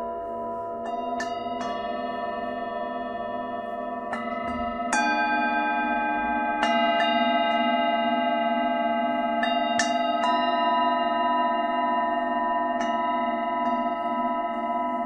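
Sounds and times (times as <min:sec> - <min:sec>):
singing bowl strikes: 0:00.0 - 0:15.0
singing bowls ringing: 0:00.0 - 0:15.0.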